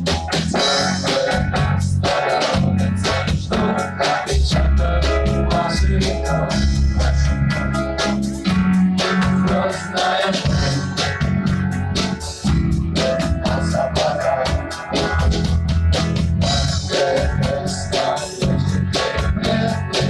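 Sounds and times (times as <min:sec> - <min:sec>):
bass guitar: 0:00.0 - 0:20.0
drum kit steady beat: 0:00.0 - 0:20.0
electric guitar: 0:00.0 - 0:20.0.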